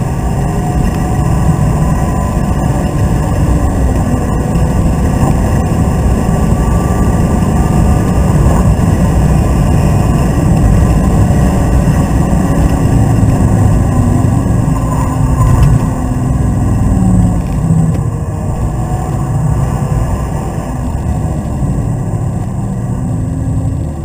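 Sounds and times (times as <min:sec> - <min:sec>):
car engine pulling hard: 0:00.0 - 0:24.0
tyre and wind noise: 0:00.0 - 0:24.0.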